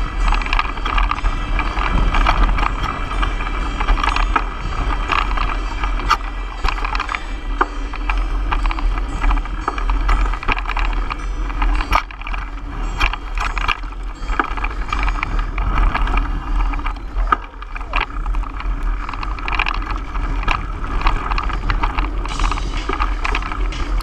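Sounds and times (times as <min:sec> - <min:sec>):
bike clattering over bumps: 0:00.0 - 0:24.0
tyres rumbling on dirt: 0:00.0 - 0:24.0
wind on microphone: 0:00.0 - 0:24.0.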